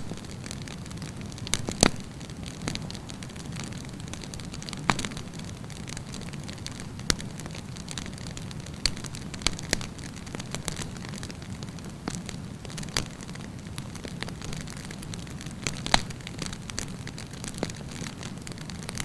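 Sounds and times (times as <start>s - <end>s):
campfire low rumble: 0.0s - 19.0s
fire crackling and popping: 0.0s - 19.0s.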